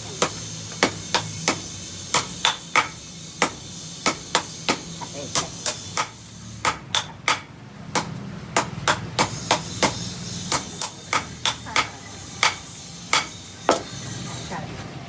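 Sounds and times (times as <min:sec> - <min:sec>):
hammer striking steel on anvil: 0:00.0 - 0:14.2.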